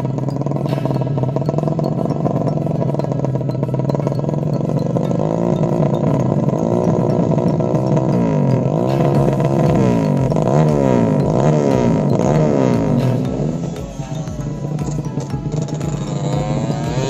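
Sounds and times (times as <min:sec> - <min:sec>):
motorcycle engine running rough: 0:00.0 - 0:17.0.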